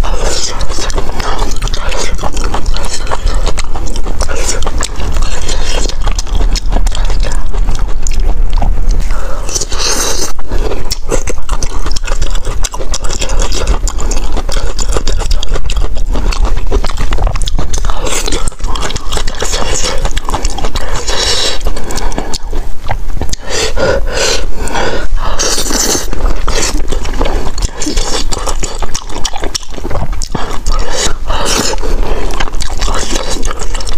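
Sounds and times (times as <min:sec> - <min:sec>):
chewing noodles: 0:00.0 - 0:33.9
loud slurps: 0:00.0 - 0:33.9.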